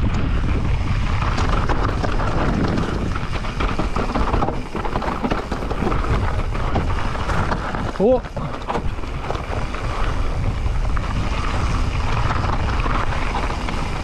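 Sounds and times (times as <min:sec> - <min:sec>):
bike clicks and rattles: 0:00.0 - 0:14.0
bike tyres on dirt and stones: 0:00.0 - 0:14.0
wind noise on microphone: 0:00.0 - 0:14.0.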